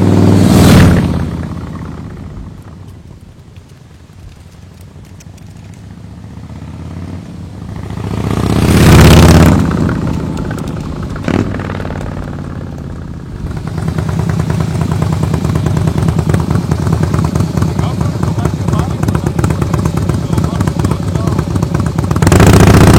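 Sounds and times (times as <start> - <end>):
motorcycle passing by: 0.0 - 2.8, 5.8 - 22.9.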